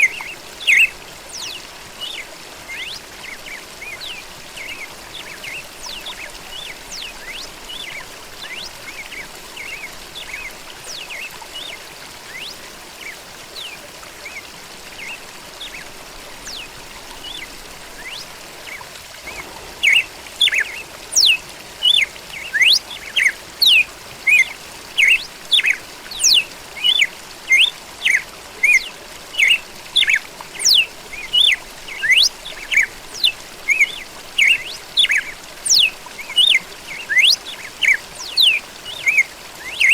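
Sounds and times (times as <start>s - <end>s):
birds chirping: 0.0s - 39.9s
water trickling: 0.0s - 39.9s.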